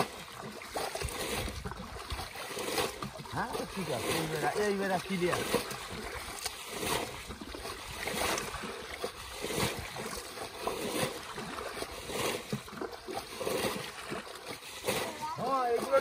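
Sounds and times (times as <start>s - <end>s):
muddy water sloshing and splashing: 0.0s - 16.0s.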